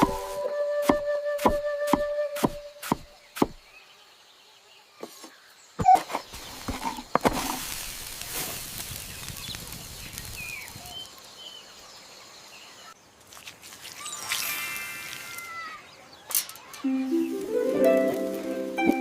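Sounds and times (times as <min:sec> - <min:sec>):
outdoor noise: 0:00.0 - 0:19.0.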